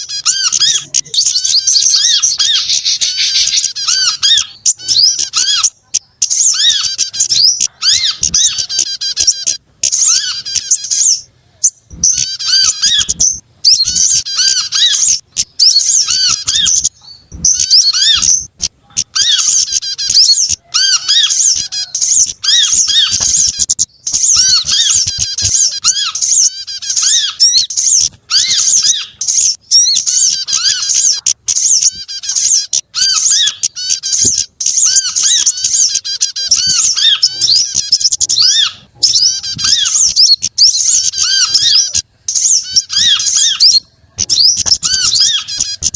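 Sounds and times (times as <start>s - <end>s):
songbird chirps and twitters: 0.0s - 45.9s.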